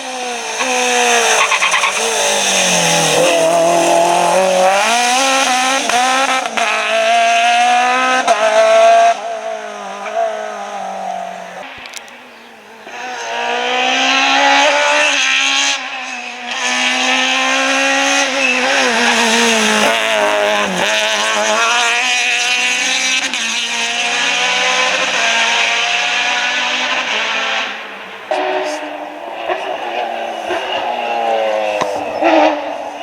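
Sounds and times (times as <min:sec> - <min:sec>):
rally car engine at high revs: 0:00.0 - 0:33.0.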